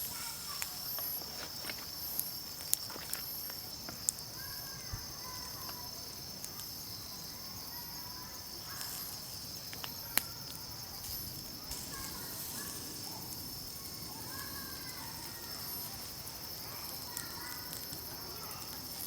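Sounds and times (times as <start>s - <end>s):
insects chirring in high trill: 0.0s - 19.0s.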